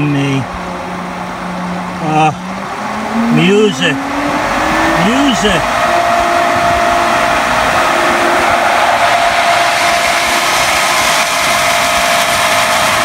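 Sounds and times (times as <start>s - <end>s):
pool pump whirring: 0.0s - 13.0s.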